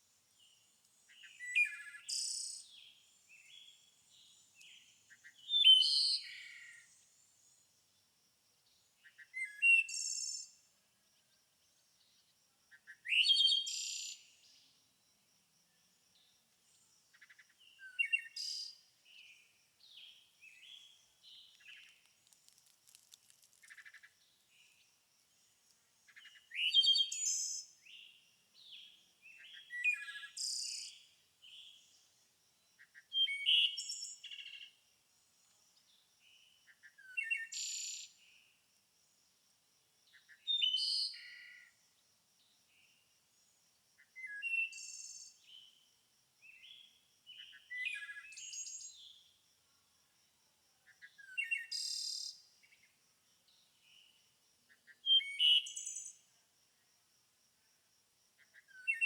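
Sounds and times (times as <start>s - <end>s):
songbird singing: 0.0s - 15.0s, 15.6s - 38.6s, 40.1s - 41.8s, 42.4s - 45.8s, 46.4s - 49.4s, 50.8s - 56.4s, 58.4s - 59.0s.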